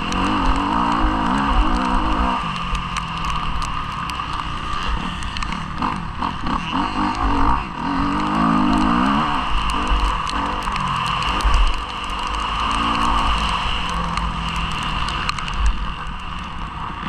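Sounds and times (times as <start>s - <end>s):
motocross bike engine revving: 0.0s - 17.0s
wind rumble on microphone: 0.0s - 17.0s.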